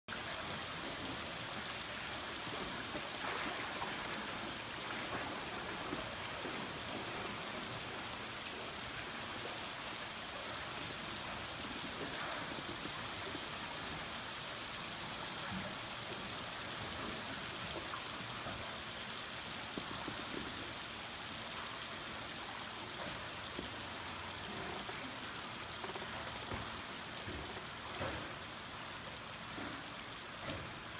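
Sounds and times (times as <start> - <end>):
rain pattering on water: 0.1 - 30.9.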